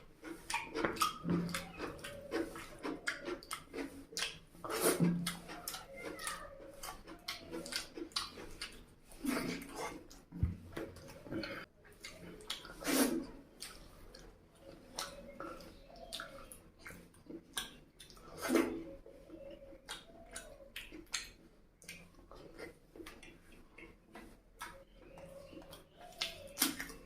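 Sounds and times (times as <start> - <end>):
wet chewing and mouth clicks: 0.0 - 27.0.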